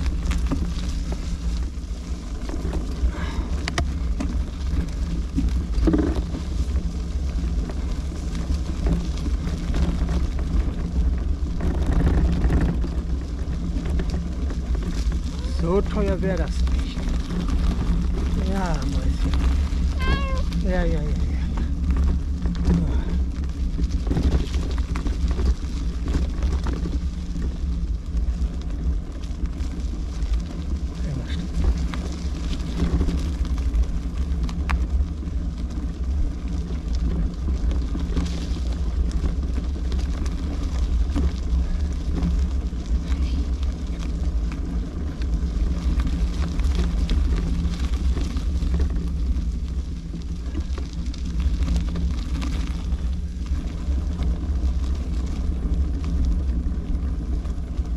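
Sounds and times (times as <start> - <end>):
bike rolling noise: 0.0 - 57.9.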